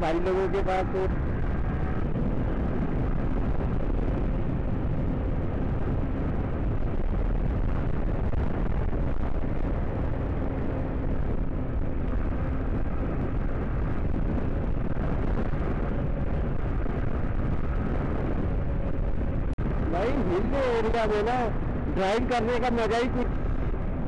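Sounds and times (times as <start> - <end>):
motorcycle engine drone: 0.0 - 24.0
wind rumble on microphone: 0.0 - 24.0.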